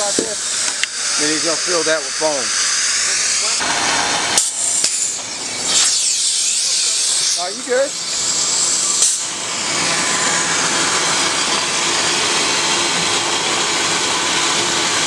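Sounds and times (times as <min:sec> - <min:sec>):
air hiss of spray gun: 0:00.0 - 0:03.7, 0:04.3 - 0:12.8.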